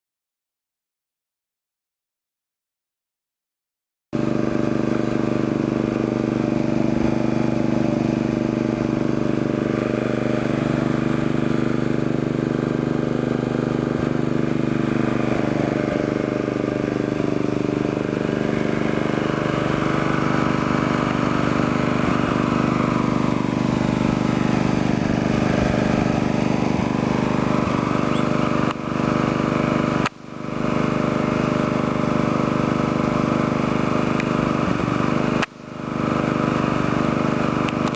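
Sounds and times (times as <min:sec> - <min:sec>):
small engine running: 0:04.2 - 0:37.9.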